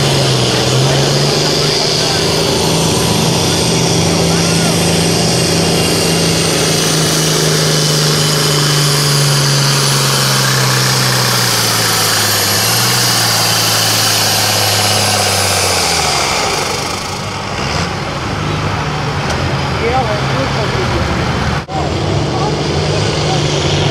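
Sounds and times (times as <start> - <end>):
tractor diesel engine at full throttle: 0.0 - 23.9.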